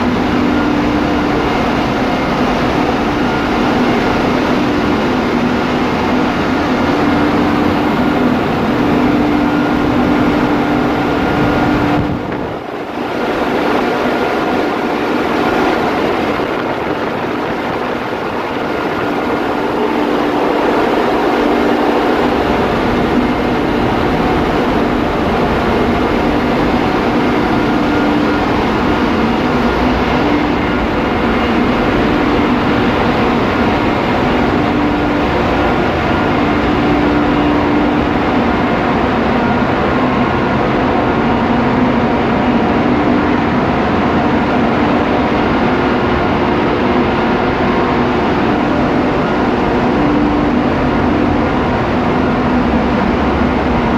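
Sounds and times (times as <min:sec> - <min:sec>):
diesel machinery drone: 0:00.0 - 0:53.9.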